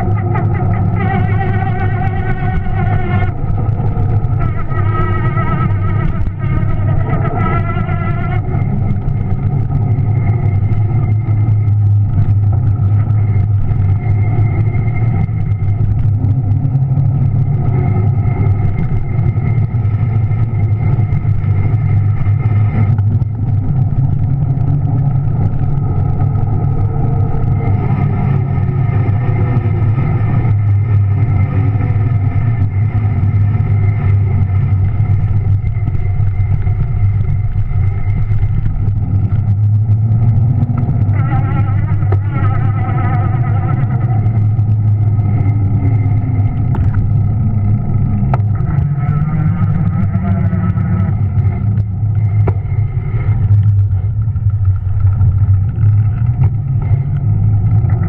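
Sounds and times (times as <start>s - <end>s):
electric motor rumble and whine: 0.0s - 58.0s.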